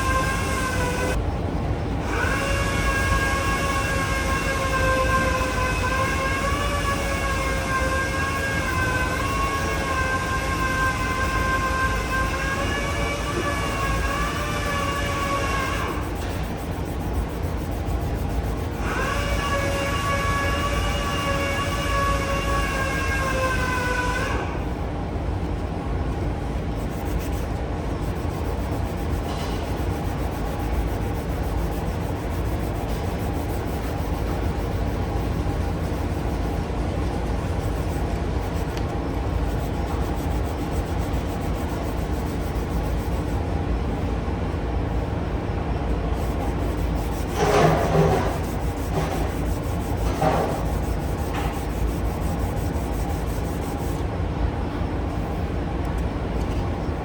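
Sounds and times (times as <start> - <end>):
low steady hum: 0.0 - 57.0
sanding a painted surface: 2.4 - 23.9, 26.8 - 43.4, 46.1 - 54.0.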